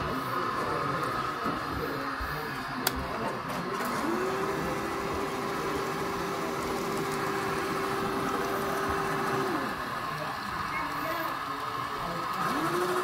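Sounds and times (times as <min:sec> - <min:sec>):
exhibition hall noise: 0:00.0 - 0:13.0
model locomotive hum: 0:00.0 - 0:13.0.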